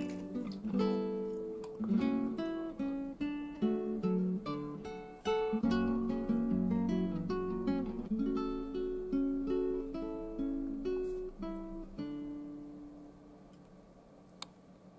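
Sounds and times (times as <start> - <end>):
plucked strings music: 0.0 - 13.5.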